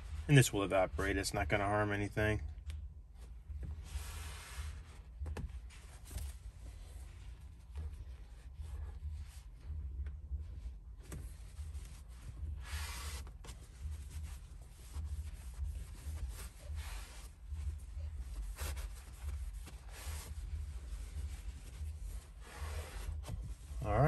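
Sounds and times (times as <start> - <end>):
steady low hum: 0.0 - 24.0
towel wiping over a screen: 3.2 - 24.0.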